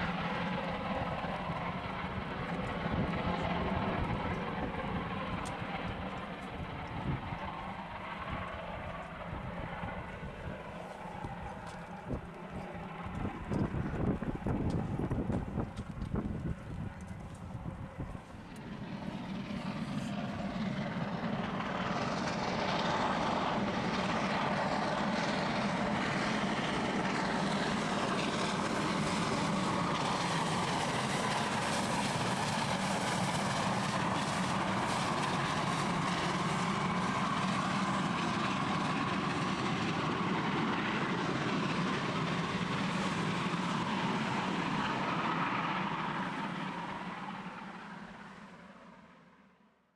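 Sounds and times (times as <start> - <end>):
train running on rails: 0.0 - 48.9.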